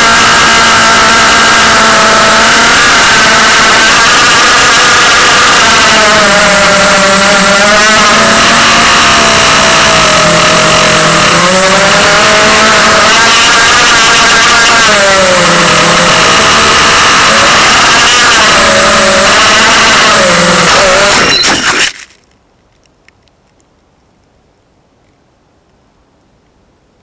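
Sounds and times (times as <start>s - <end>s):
quadcopter motors whining: 0.0s - 22.1s.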